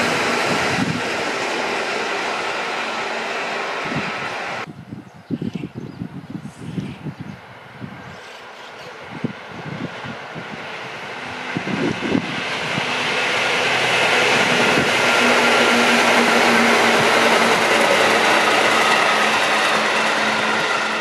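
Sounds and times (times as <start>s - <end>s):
train passing close by: 0.0s - 21.0s.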